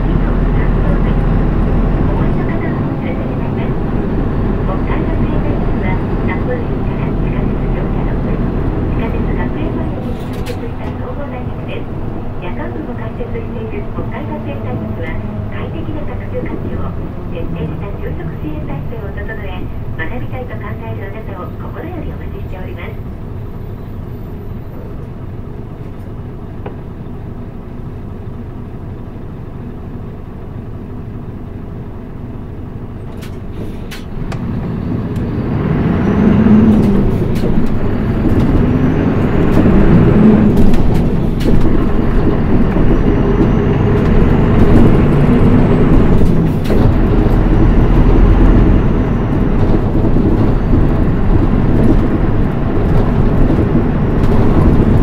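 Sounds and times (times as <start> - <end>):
bus diesel engine accelerating: 0.0 - 55.0.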